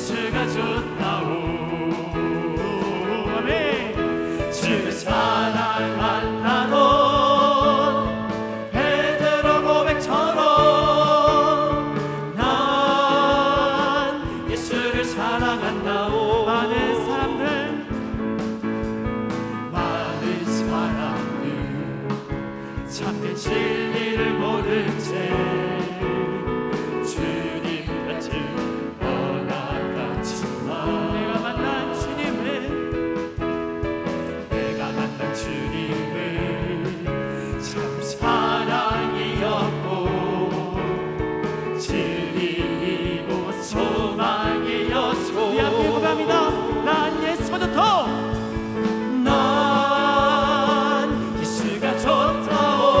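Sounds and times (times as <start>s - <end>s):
mixed choir singing: 0.0s - 18.7s, 19.4s - 33.4s, 34.4s - 53.0s
electric keyboard: 0.0s - 53.0s.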